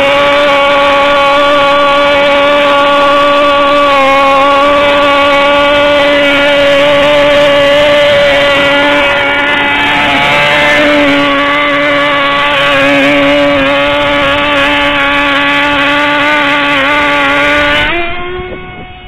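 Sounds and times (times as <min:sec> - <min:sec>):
model engine high-pitched whine: 0:00.0 - 0:19.0.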